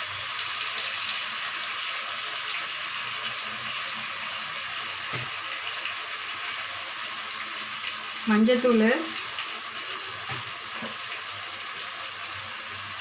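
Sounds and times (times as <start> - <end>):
masala sizzling in hot oil: 0.0 - 13.0.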